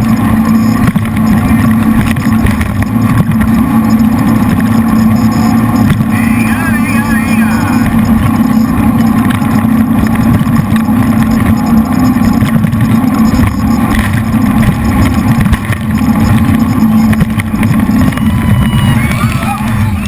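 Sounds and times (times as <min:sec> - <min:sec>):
boat engines droning at speed: 0:00.0 - 0:20.0.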